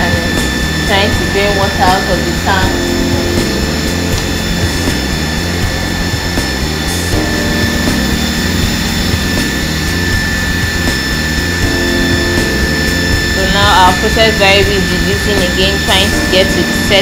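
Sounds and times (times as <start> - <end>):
electric pump motor humming: 0.0 - 17.0.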